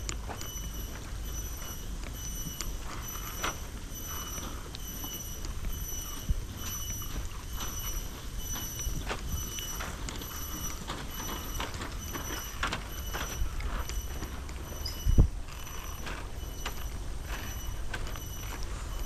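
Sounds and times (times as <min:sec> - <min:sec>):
footsteps on a trail: 0:00.0 - 0:19.0.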